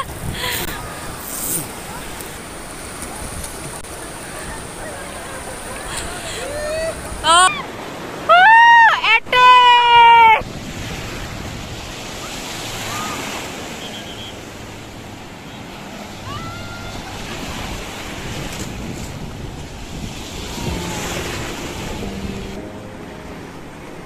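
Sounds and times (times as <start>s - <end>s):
sea surf washing on shore: 0.0s - 24.0s.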